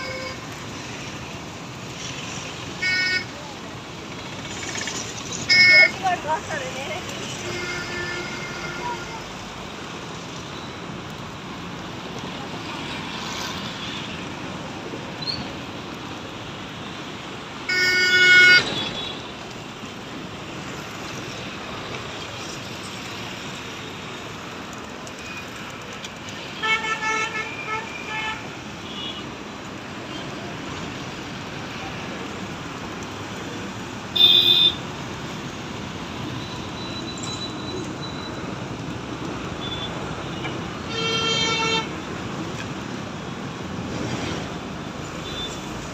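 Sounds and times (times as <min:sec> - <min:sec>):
urban traffic noise: 0:00.0 - 0:45.9.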